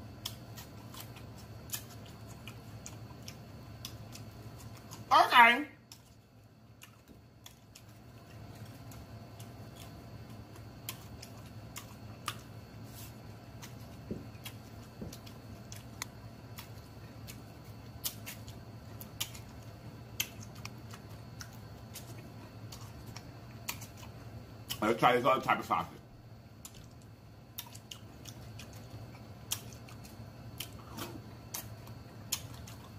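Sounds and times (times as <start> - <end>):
faint low hum: 0.0 - 32.9
person chewing: 0.1 - 5.1, 5.9 - 24.8, 26.6 - 32.9.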